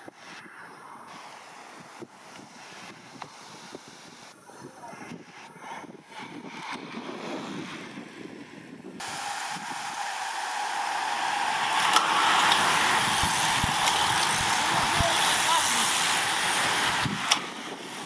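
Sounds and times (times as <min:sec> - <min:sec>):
bicycle tyres and freewheels whirring: 0:00.0 - 0:18.0
wind thumps on microphone: 0:01.1 - 0:10.4, 0:11.7 - 0:18.0.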